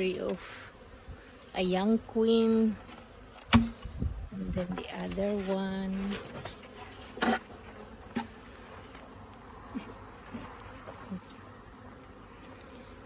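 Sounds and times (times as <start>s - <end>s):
honeybees buzzing: 0.0s - 13.0s
single bee buzzing past: 0.0s - 13.0s.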